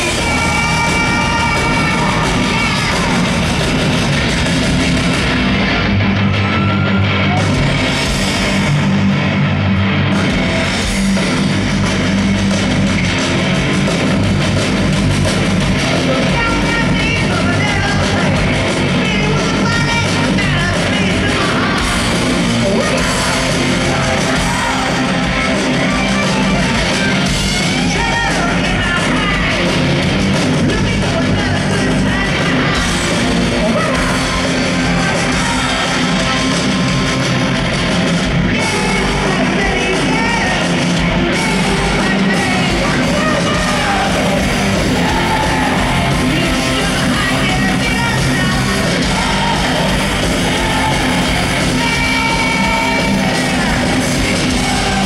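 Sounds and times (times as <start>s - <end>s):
hard rock band playing live: 0.0s - 55.0s.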